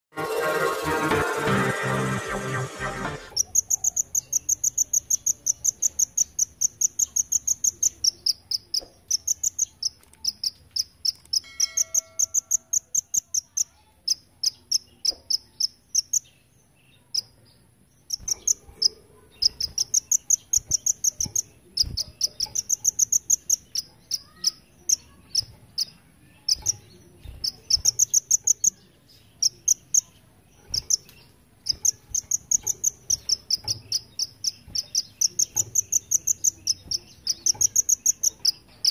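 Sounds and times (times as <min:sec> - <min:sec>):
bird singing insect-like trills: 0:03.3 - 0:16.4, 0:18.0 - 0:38.9.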